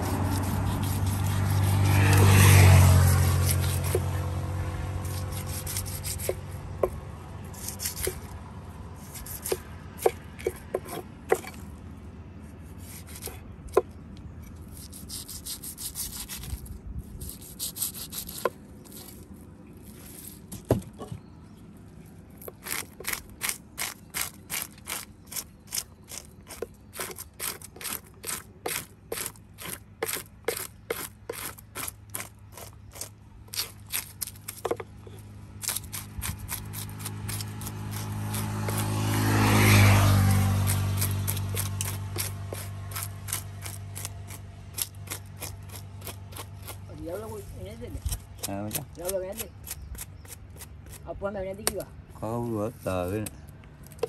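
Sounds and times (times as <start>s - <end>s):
knife scraping fish scales: 0.0s - 4.2s, 5.0s - 8.4s, 9.0s - 11.6s, 12.5s - 20.7s, 22.4s - 51.0s.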